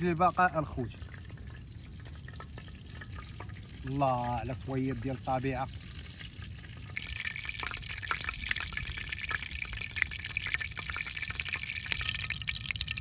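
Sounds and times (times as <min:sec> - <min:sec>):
oil sizzling and crackling in pan: 0:00.0 - 0:13.0.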